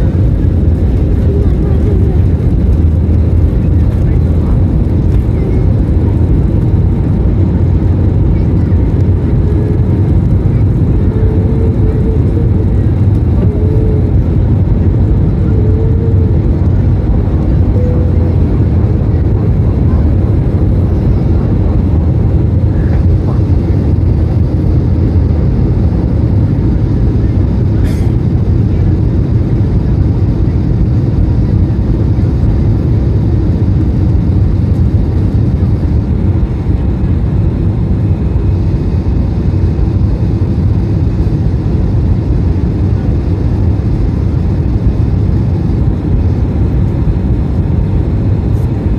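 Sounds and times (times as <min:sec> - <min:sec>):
aircraft cabin engine rumble: 0:00.0 - 0:48.9.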